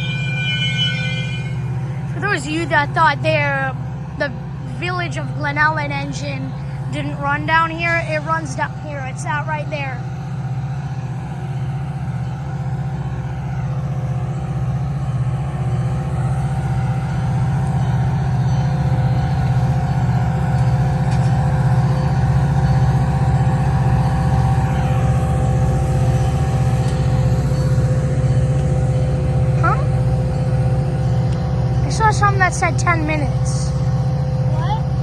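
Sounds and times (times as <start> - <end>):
diesel locomotive idling: 0.0 - 35.0.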